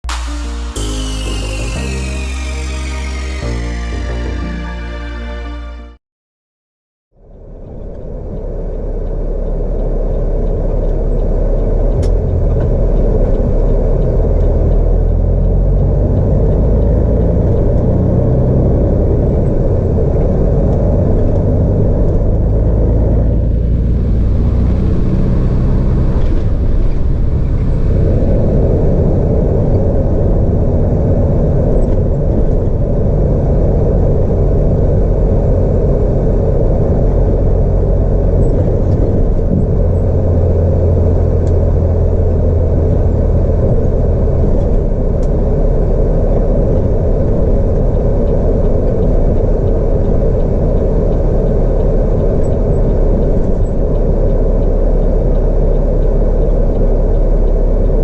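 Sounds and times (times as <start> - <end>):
truck engine drone: 0.0 - 6.0, 7.3 - 58.0
road rumble: 7.3 - 58.0.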